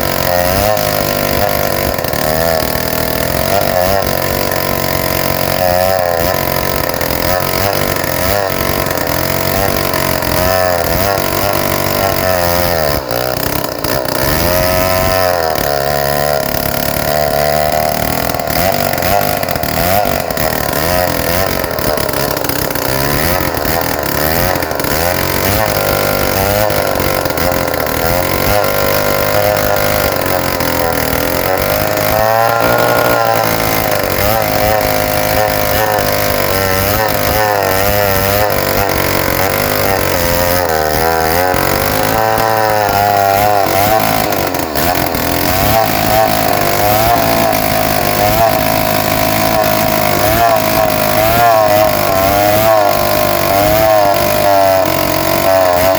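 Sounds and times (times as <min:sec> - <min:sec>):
chainsaw cutting a log: 0:00.0 - 0:55.9.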